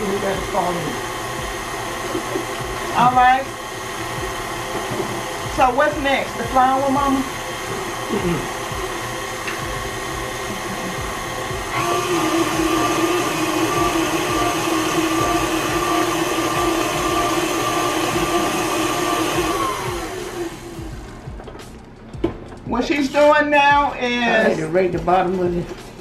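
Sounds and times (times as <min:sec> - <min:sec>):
stand mixer whining: 0:00.0 - 0:21.0.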